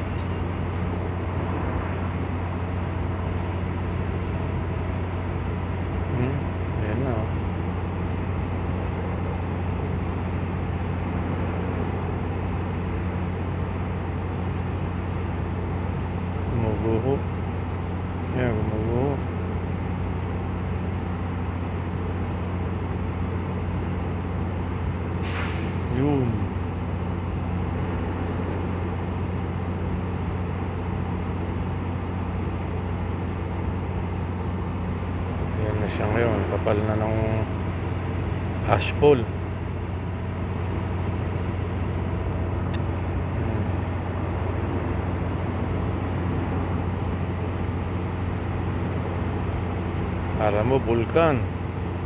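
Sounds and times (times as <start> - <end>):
machinery droning hum: 0.0 - 52.0.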